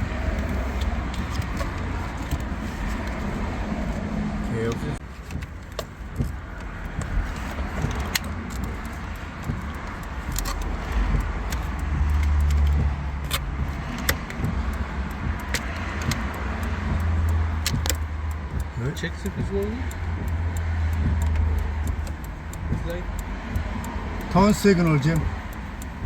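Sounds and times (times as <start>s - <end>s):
sharp clicks and rattles of parts: 0.0s - 26.0s.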